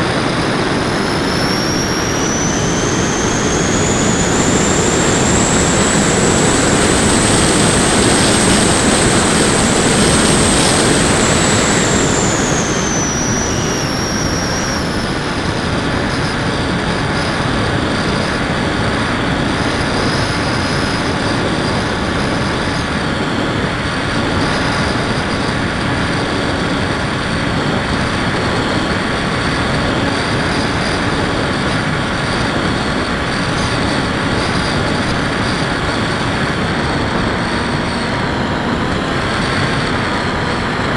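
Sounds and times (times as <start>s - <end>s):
electric motor whine: 0.0s - 40.9s
rushing air: 0.0s - 40.9s.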